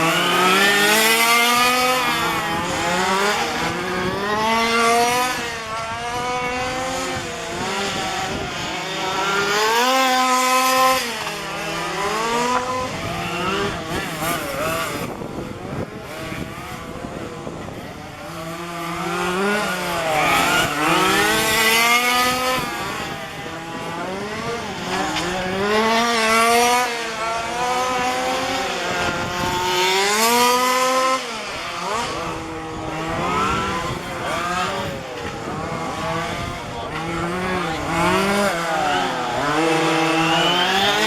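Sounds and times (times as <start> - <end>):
small engines of rc cars revving: 0.0 - 41.0.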